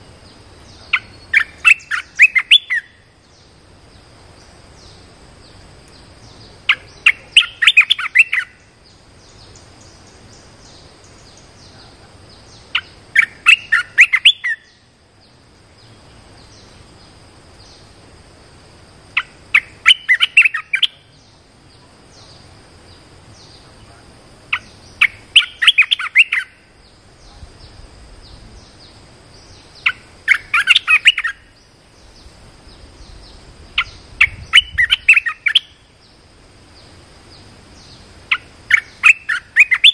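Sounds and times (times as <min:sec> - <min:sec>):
faint high-pitched hum: 0:00.0 - 0:39.9
songbird chirping: 0:00.0 - 0:39.9.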